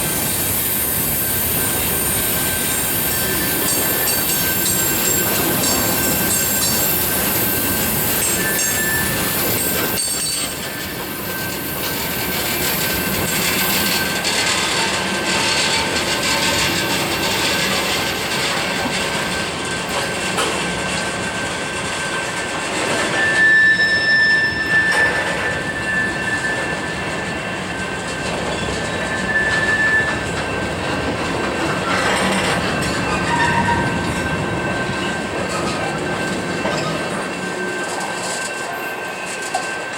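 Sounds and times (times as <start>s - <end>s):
freight train cars rumbling: 0.0s - 39.9s
train wheels squealing: 0.0s - 39.9s.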